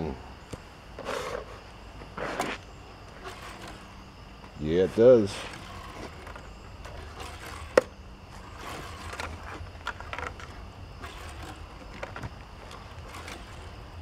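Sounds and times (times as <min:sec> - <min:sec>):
toy car rolling and scraping on wood: 0:01.0 - 0:14.0.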